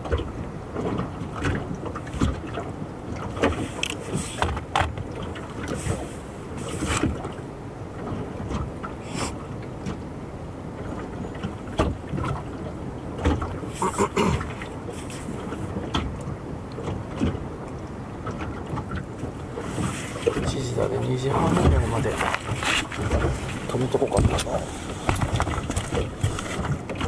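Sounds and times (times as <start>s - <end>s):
knocks and splashes: 0.0s - 10.1s, 10.7s - 27.0s
water lapping against boat hull: 0.0s - 27.0s.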